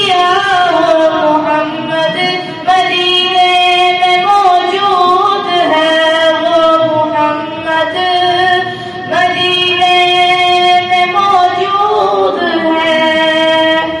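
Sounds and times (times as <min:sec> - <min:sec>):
boy singing devotional song: 0:00.0 - 0:14.0.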